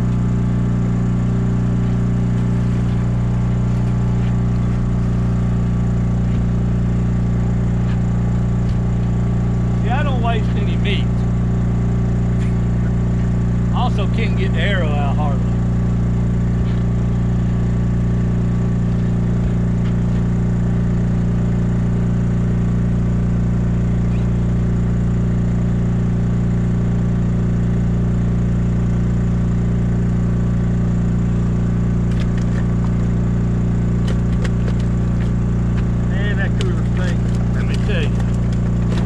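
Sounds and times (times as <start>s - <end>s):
small engine humming: 0.0s - 39.0s.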